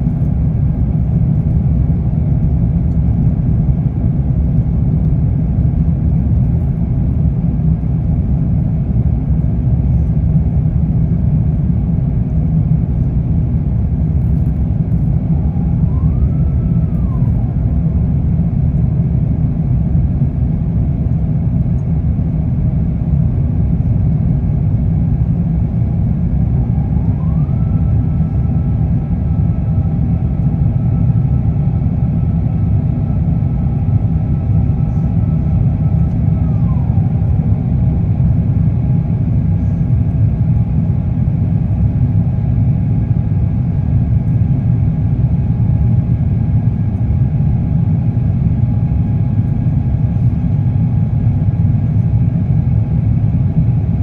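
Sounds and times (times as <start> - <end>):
airplane cabin engine roar: 0.0 - 54.0
faint engine whine: 0.0 - 54.0.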